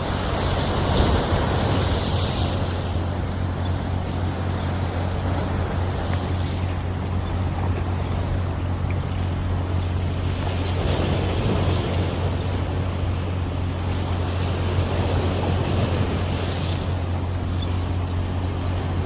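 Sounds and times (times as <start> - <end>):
low engine hum: 0.0 - 19.0
water noise: 0.0 - 19.0
wind: 0.0 - 19.0.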